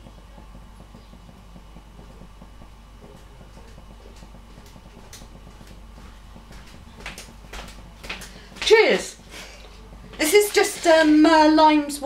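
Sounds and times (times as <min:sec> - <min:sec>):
low hum: 0:00.0 - 0:12.0
water bubbling in a pan: 0:00.0 - 0:12.0.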